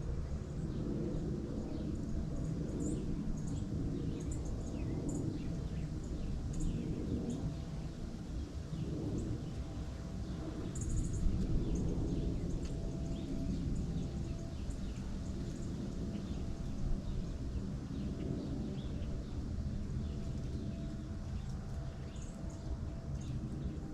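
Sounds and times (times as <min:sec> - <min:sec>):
low rushing background noise: 0:00.0 - 0:23.9.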